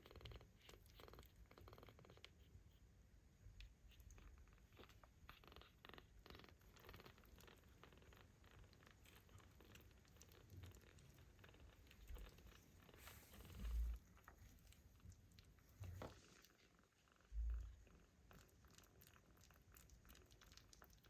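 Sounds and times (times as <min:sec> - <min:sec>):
kittens purring: 0:00.0 - 0:21.0.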